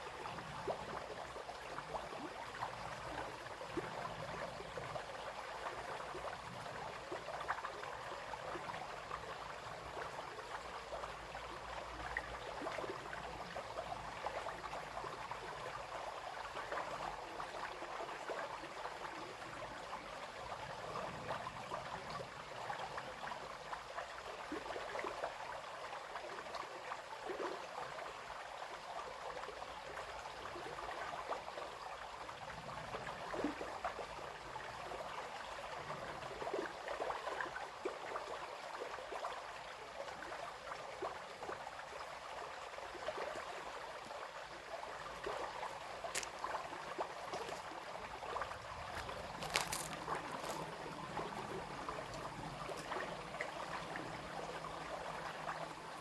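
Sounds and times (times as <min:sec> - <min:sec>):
brook babbling and splashing: 0:00.0 - 0:56.0.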